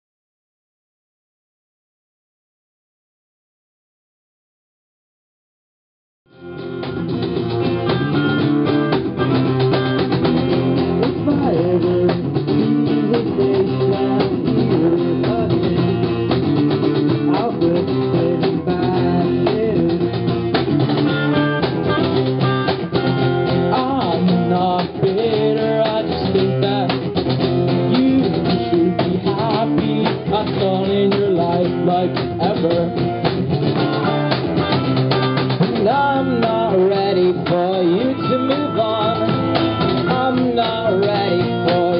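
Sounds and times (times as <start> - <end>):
acoustic guitar strumming: 6.3 - 41.9
cajon beat: 6.3 - 41.9
electric guitar: 6.3 - 41.9.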